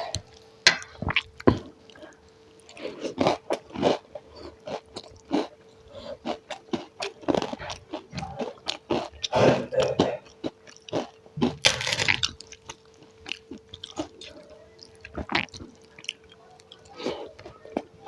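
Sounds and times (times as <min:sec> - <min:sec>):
faint steady hum: 0:00.0 - 0:18.0
person chewing and mouth sounds: 0:00.0 - 0:18.0.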